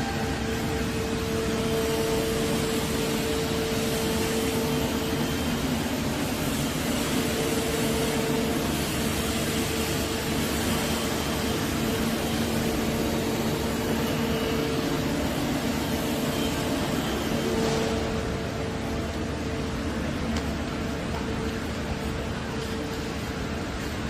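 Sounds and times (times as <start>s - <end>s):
mechanical running noise: 0.0s - 24.0s
mid-pitched whine: 0.0s - 24.0s.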